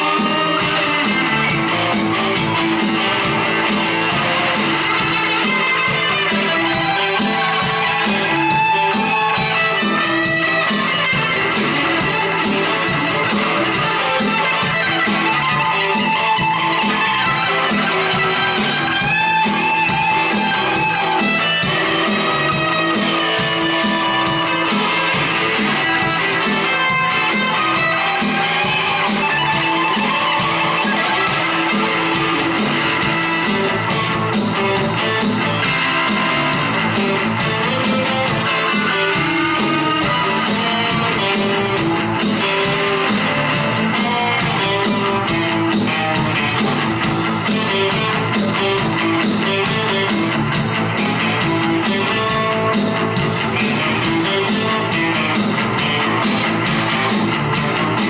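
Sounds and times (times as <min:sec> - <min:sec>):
distorted electric guitars jamming: 0:00.0 - 0:58.0
drum machine beat: 0:00.0 - 0:58.0.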